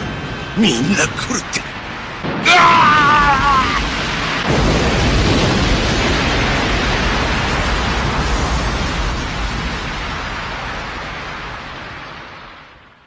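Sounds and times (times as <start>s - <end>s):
large explosion rumbling: 0.1s - 12.7s.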